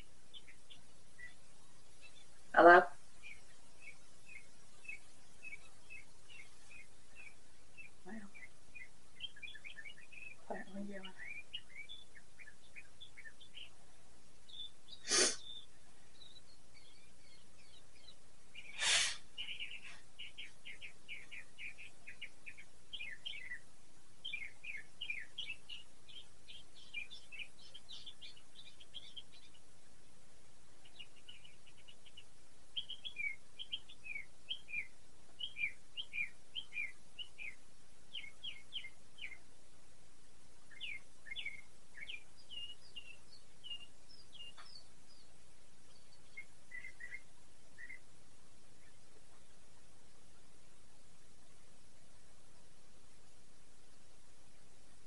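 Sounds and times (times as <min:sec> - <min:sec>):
small bird chirping: 0:00.0 - 0:39.5, 0:40.6 - 0:50.5.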